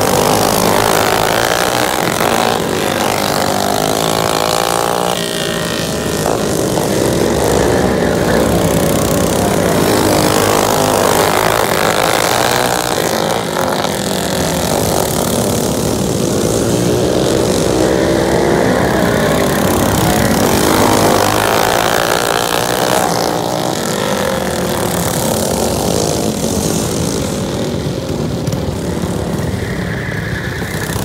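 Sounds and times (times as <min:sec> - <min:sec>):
racing kart engines passing: 0:00.0 - 0:31.0.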